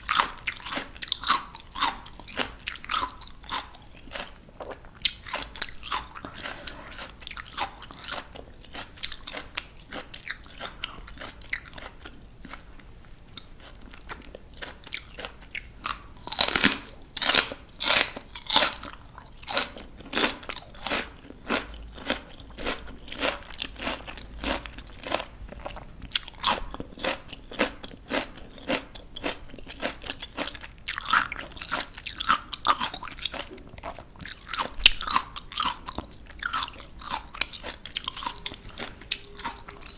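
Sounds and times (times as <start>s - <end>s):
crunching of raw vegetables: 0.0s - 39.9s.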